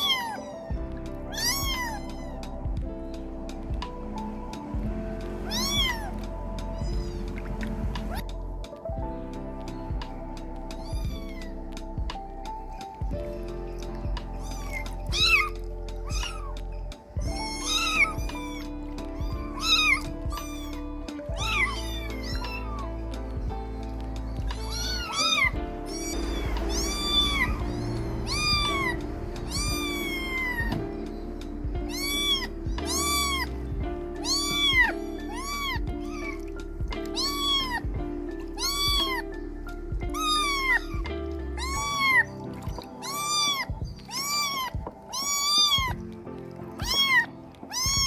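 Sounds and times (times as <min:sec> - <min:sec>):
kittens meowing: 0:00.0 - 0:08.8, 0:09.4 - 0:48.0
background music with bass line: 0:00.0 - 0:48.0.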